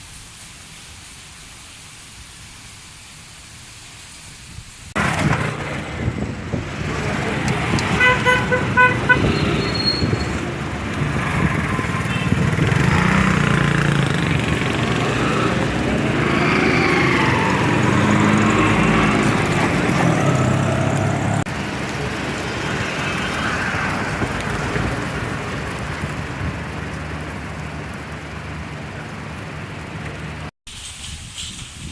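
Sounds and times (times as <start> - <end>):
vehicles passing: 5.0 - 30.5.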